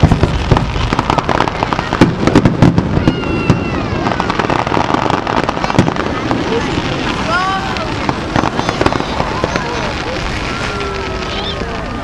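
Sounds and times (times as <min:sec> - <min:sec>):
fireworks shells bursting: 0:00.0 - 0:11.6
fireworks crackling: 0:00.0 - 0:12.0.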